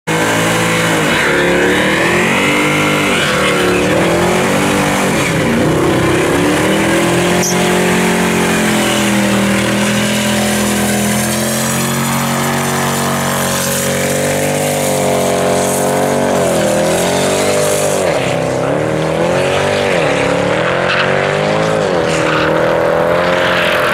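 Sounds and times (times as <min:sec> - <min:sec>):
car engine revving hard: 0:00.0 - 0:23.9
spinning tyres hissing: 0:00.1 - 0:23.9.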